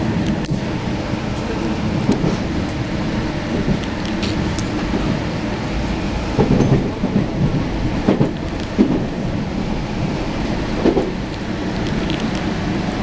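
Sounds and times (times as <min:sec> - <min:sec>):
track knocks: 0:00.0 - 0:13.0
train wheels rumbling on rails: 0:00.0 - 0:13.0.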